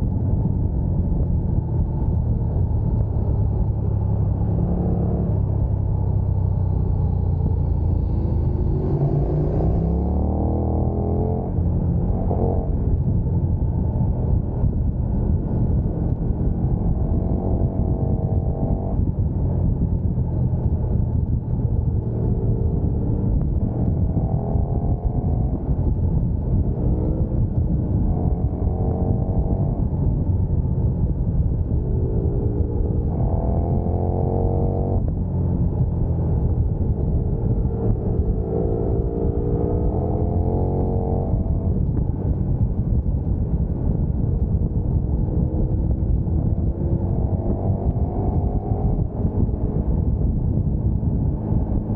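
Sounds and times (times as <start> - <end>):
motorcycle engine accelerating: 0.0 - 51.9
wind rumble on microphone: 0.0 - 51.9.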